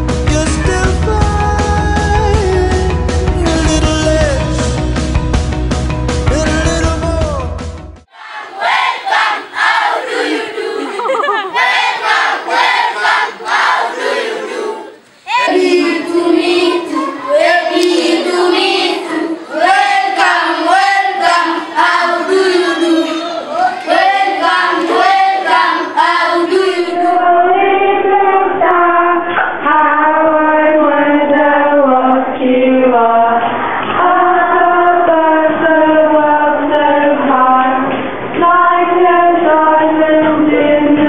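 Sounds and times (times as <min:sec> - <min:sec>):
children singing together: 0:08.1 - 0:41.0.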